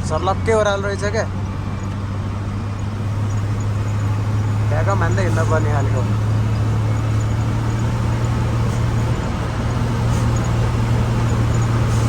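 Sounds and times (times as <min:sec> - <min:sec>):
road rumble: 0:00.0 - 0:12.0
truck engine running: 0:00.0 - 0:12.0.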